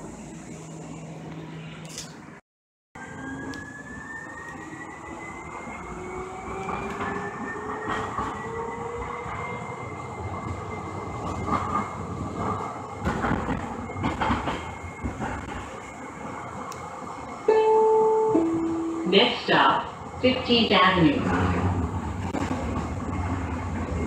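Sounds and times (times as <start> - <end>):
wheels rumbling on rails: 3.0 - 24.0.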